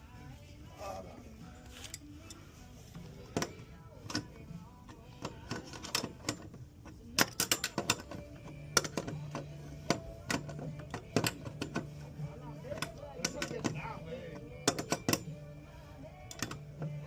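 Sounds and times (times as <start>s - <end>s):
hand tools clicking on pipework: 3.3s - 17.0s.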